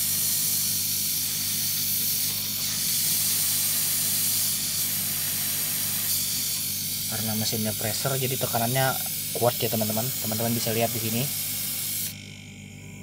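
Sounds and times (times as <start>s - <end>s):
compressed air hissing from pipe: 0.0s - 12.1s
compressor humming: 0.0s - 13.0s.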